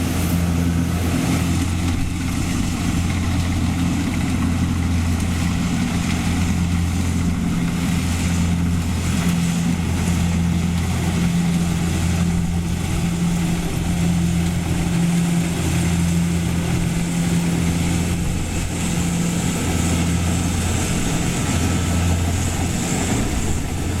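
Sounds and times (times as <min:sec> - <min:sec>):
harvester engine humming: 0:00.0 - 0:24.0.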